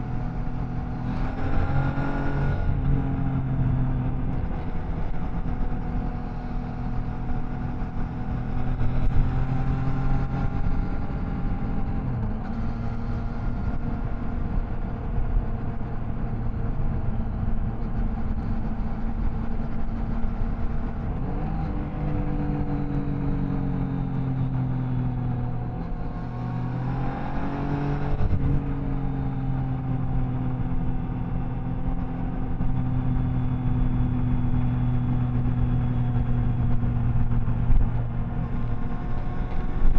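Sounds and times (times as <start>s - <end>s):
motorcycle engine running: 2.6s - 39.9s.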